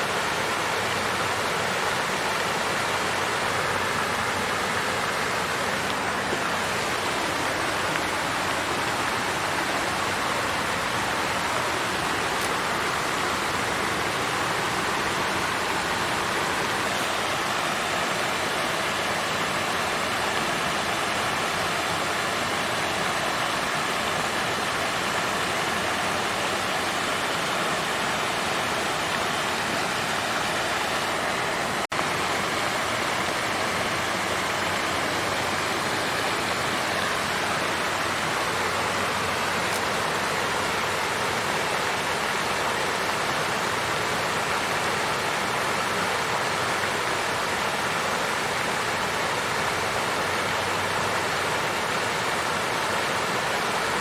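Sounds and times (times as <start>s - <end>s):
water fountain splashing: 0.0s - 54.0s.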